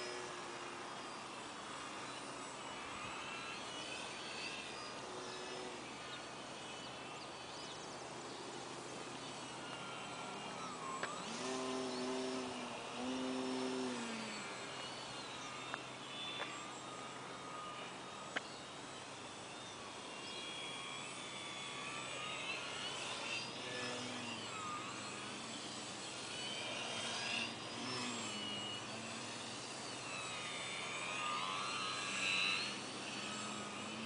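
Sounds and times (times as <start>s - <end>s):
electric model plane motor whining: 0.0s - 34.0s.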